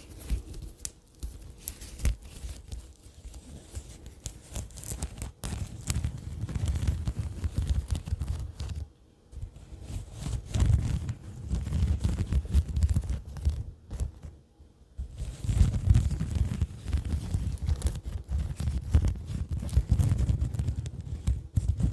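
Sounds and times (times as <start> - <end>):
fingertips tapping and rubbing: 0.0 - 8.8, 9.4 - 14.3, 15.0 - 21.9.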